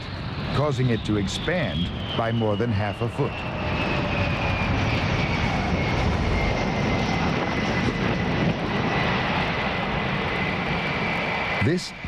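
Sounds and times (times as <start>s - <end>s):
high falling whine: 0.0s - 12.0s
jet engine running: 0.0s - 12.0s.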